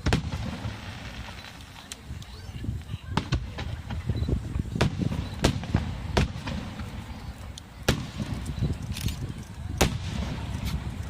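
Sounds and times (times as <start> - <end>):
fireworks bangs: 0.0 - 11.0
fireworks crackle: 0.0 - 11.0.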